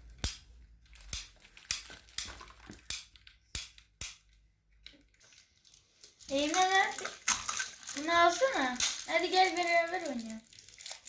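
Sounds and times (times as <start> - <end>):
plastic toys clicking: 1.0 - 11.0.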